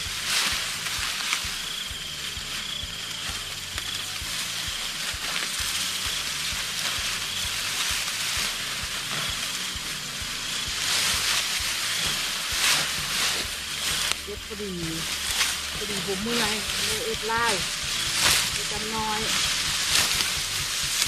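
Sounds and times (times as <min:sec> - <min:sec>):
rice stalks rustling: 0:00.0 - 0:21.0.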